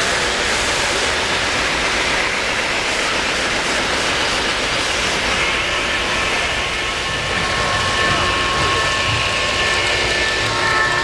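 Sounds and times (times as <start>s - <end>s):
model trains rolling on track: 0.0s - 11.0s.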